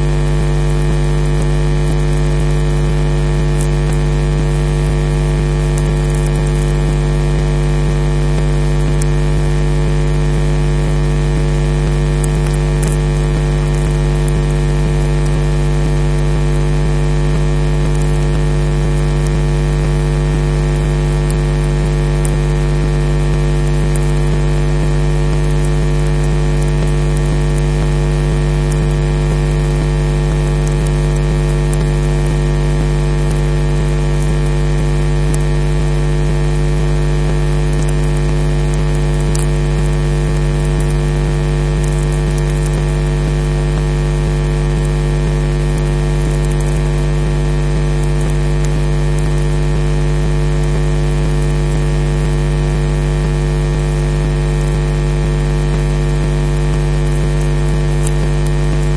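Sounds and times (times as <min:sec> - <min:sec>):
electrical mains hum: 0:00.0 - 0:52.8.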